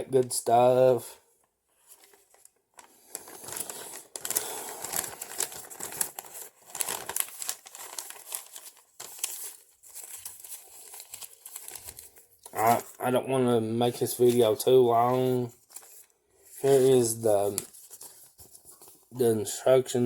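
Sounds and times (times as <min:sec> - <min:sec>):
paper crinkling and rustling: 0:01.7 - 0:13.1, 0:13.8 - 0:19.8.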